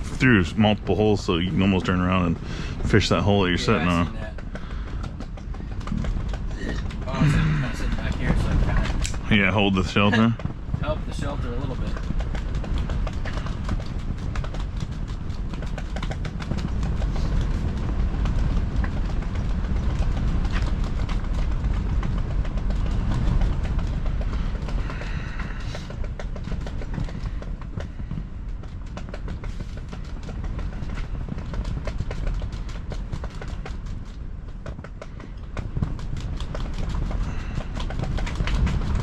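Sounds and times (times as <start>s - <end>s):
fabric flapping and rattling: 0.0s - 39.0s
strong wind buffeting microphone: 0.0s - 39.0s.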